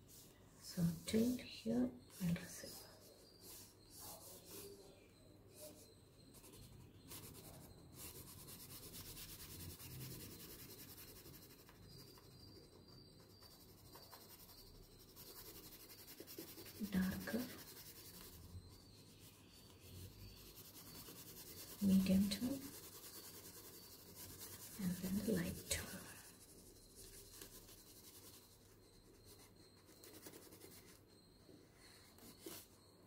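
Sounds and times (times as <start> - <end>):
pencil scratching on paper: 2.0 - 4.8, 5.6 - 31.3, 32.0 - 32.8.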